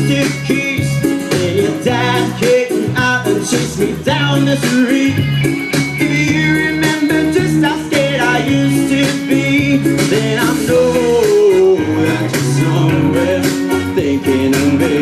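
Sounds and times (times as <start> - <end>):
band music with guitar: 0.0 - 15.0.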